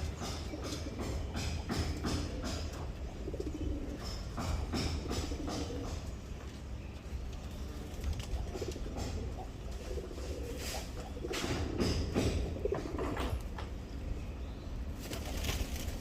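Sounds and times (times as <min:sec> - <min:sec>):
pigeons cooing: 0:00.0 - 0:06.4, 0:07.4 - 0:13.8.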